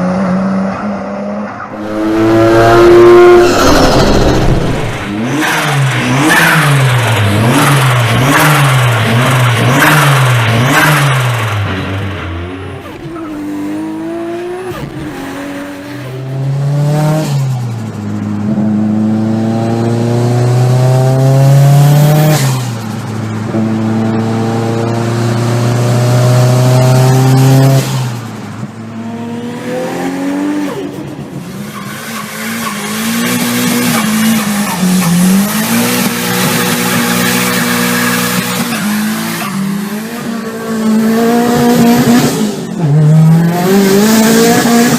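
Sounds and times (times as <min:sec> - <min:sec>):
car engine revving: 0:01.6 - 0:28.2, 0:31.8 - 0:44.9.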